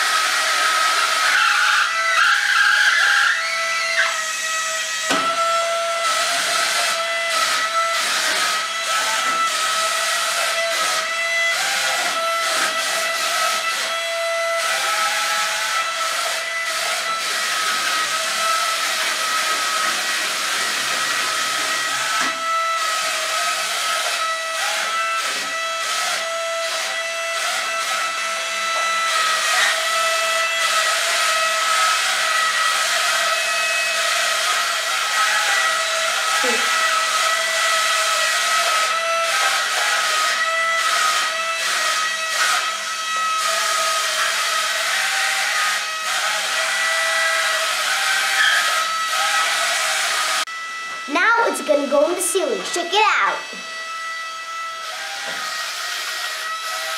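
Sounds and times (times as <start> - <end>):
toy suction fan whining: 0.0 - 56.9.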